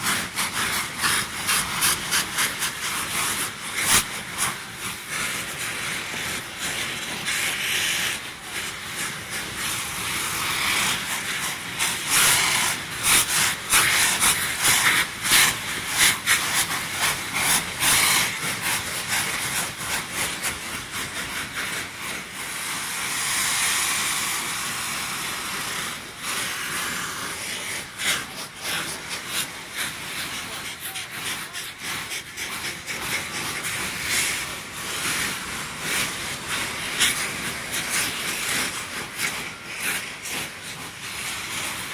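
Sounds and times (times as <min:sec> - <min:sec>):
rockets hissing: 0:00.0 - 0:41.9.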